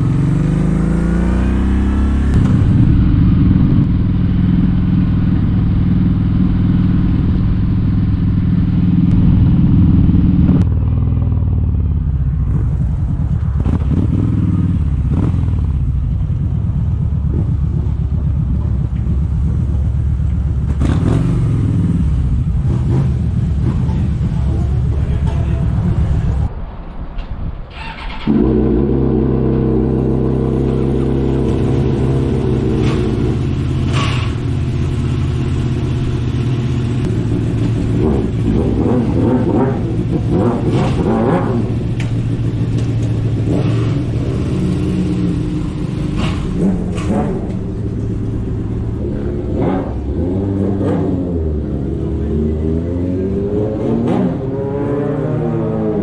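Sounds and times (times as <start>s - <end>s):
motorcycle engine cruising: 0.0s - 26.5s, 27.7s - 56.0s.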